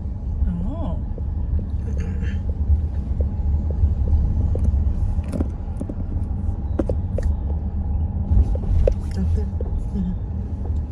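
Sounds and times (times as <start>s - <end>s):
car engine and tyre rumble: 0.0s - 10.9s.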